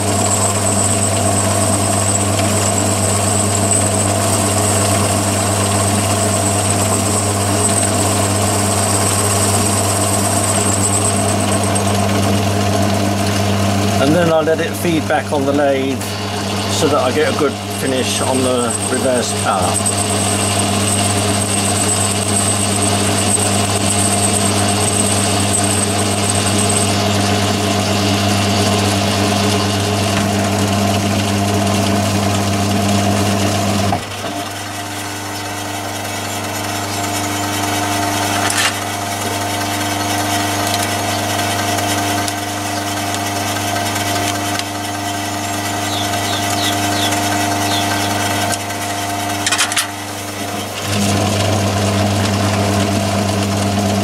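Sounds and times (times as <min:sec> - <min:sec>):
lathe running: 0:00.0 - 0:54.0.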